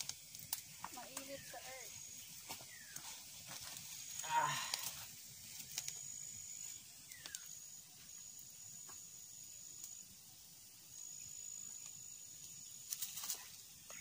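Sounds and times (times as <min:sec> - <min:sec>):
high-pitched insect trill: 0:00.0 - 0:14.0
soft hiss: 0:00.0 - 0:14.0
wood fire crackles: 0:00.0 - 0:14.0.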